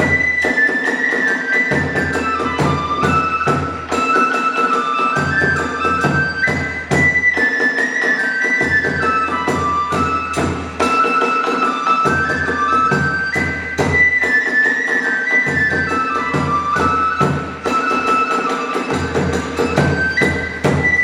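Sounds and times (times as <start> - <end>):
bamboo flute melody: 0.0 - 21.0
drum strokes: 0.0 - 21.0.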